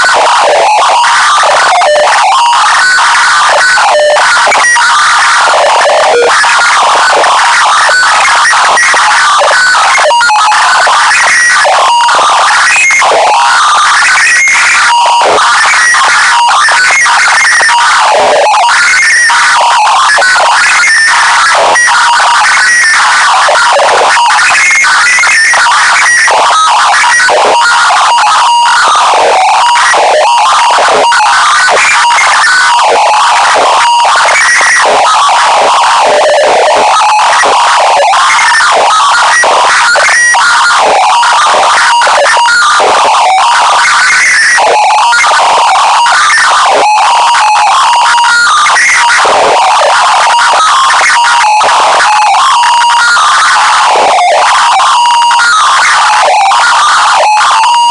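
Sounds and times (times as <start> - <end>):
harsh distorted noise: 0.0 - 57.9.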